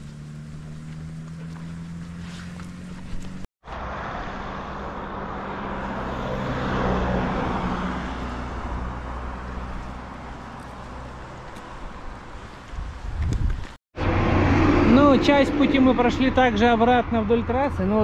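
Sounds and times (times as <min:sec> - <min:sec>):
vehicle passing by: 0:00.0 - 0:12.8, 0:14.0 - 0:18.0
steady engine hum: 0:00.0 - 0:13.2, 0:14.0 - 0:18.0.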